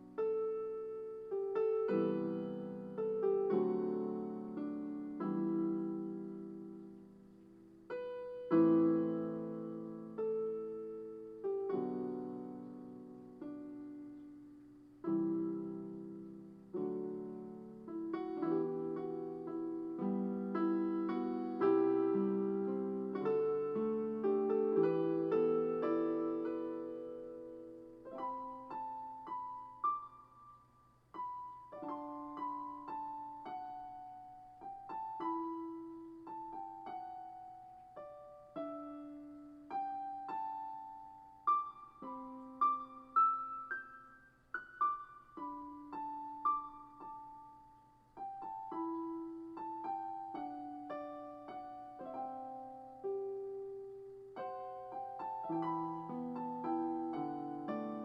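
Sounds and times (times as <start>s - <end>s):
gentle solo piano: 0.0s - 58.0s.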